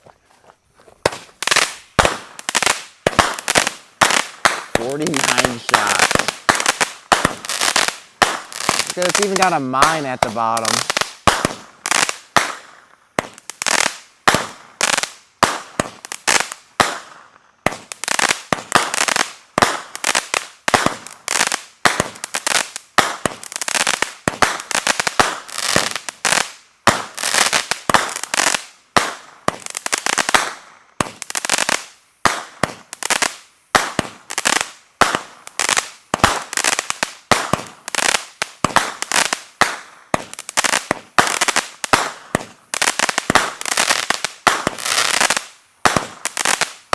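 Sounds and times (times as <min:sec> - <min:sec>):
firework cake bangs: 0:01.0 - 0:14.8, 0:15.4 - 0:22.3, 0:22.9 - 0:26.2, 0:26.8 - 0:28.3, 0:28.9 - 0:31.2, 0:32.2 - 0:33.0, 0:33.8 - 0:34.3, 0:35.0 - 0:35.5, 0:37.2 - 0:42.6, 0:43.2 - 0:45.0, 0:45.8 - 0:46.9.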